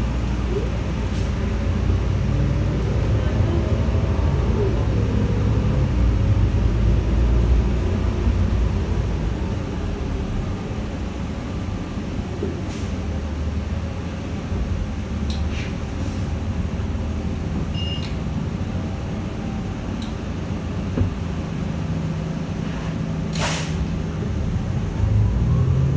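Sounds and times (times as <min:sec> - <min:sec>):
bus engine and road rumble: 0:00.0 - 0:25.9.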